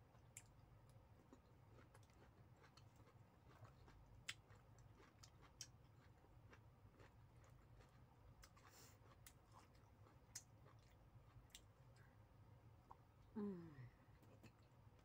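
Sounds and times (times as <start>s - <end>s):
faint low hum: 0.0s - 15.0s
faint chewing: 0.1s - 12.2s, 14.1s - 15.0s.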